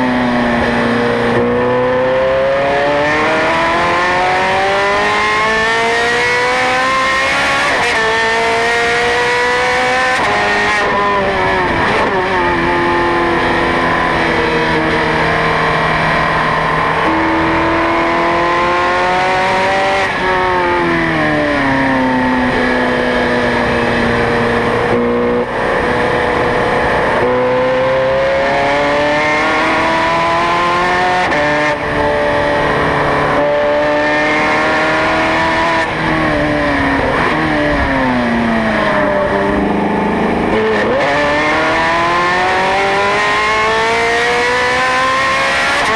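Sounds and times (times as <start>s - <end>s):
sports car engine revving through gears: 0.0s - 45.9s.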